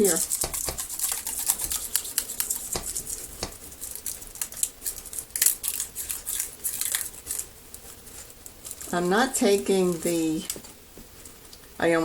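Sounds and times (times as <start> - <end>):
foil crinkling and scratching: 0.0 - 10.6.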